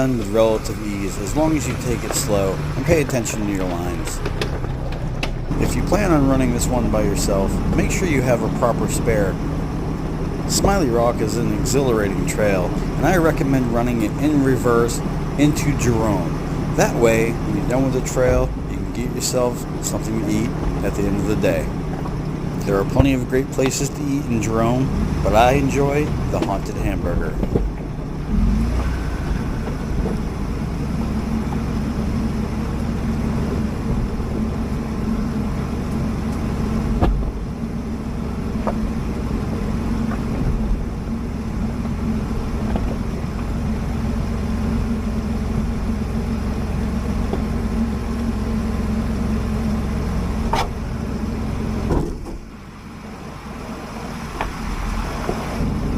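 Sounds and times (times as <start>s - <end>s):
engine running at low speed: 0.0s - 55.9s.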